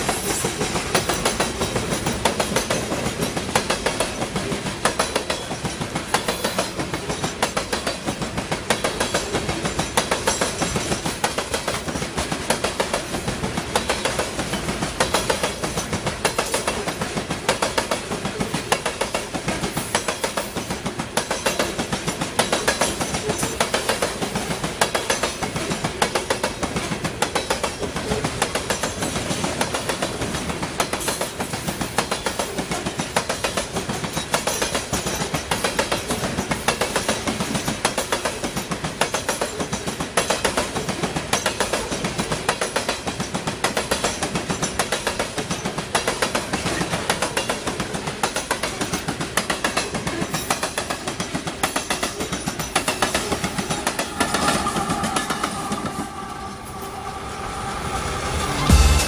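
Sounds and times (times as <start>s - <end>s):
train wheels clickety-clack: 0.0s - 59.0s.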